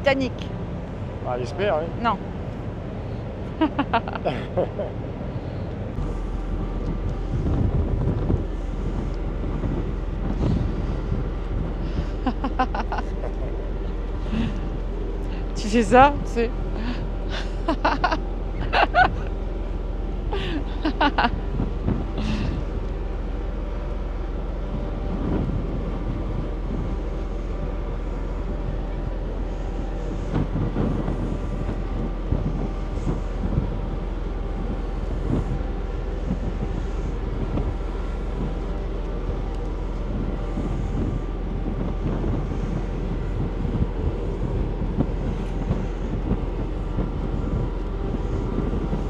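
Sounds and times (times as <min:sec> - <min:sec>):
ferry engines droning: 0:00.0 - 0:49.0
wind buffeting the microphone: 0:00.0 - 0:49.0.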